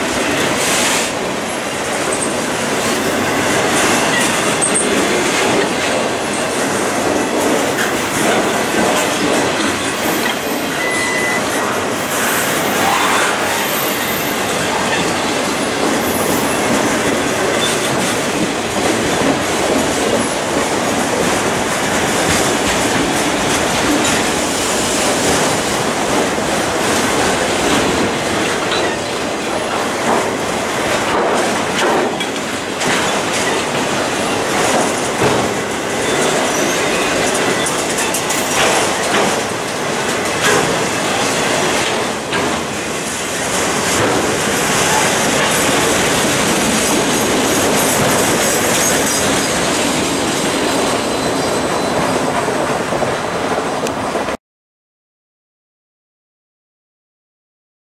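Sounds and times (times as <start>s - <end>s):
steel train wheels on rail: 0.0s - 54.4s.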